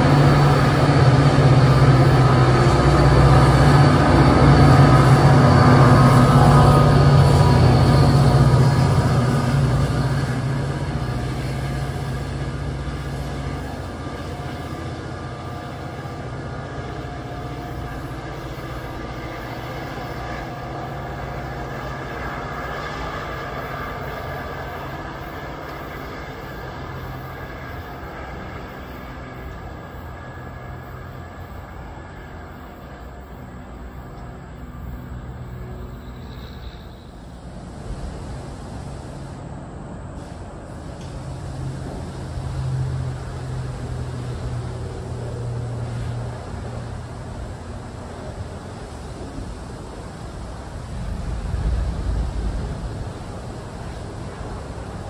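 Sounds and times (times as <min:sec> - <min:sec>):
commuter train running past: 0:00.0 - 0:55.0.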